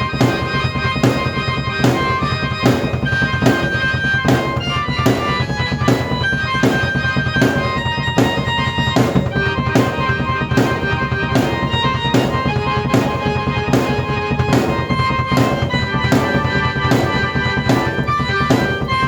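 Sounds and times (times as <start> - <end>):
steady drum beat: 0.0 - 19.0
sustained organ-like keyboard notes: 0.0 - 19.0.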